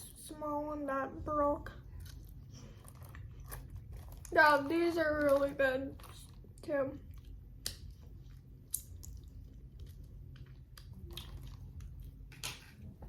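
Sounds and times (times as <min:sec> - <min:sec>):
person chewing crunchy candy: 0:01.8 - 0:12.4.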